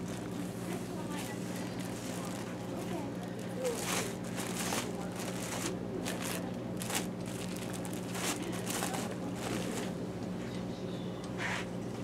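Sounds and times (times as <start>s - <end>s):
plastic bags crinkling: 0.0s - 10.0s
steady low hum: 0.0s - 12.0s.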